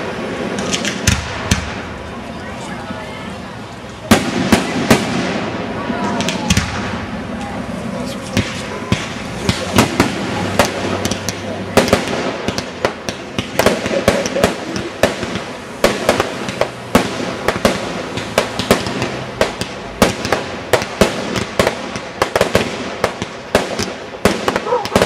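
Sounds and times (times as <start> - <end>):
firework bangs and crackles: 0.0 - 25.0.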